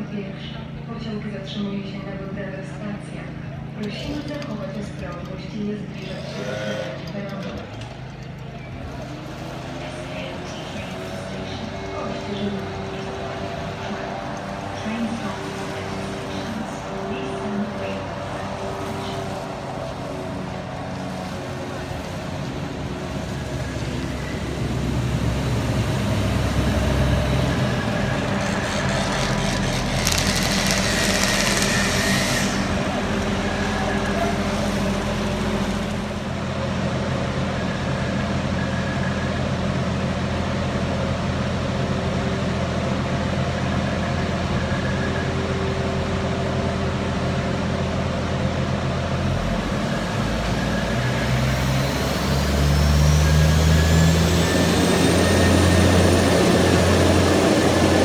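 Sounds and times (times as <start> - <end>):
diesel railcar engine drone: 0.0 - 58.0.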